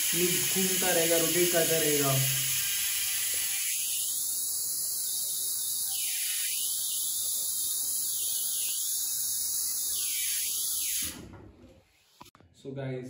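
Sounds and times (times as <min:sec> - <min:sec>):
bicycle freehub ticking: 0:00.0 - 0:11.0.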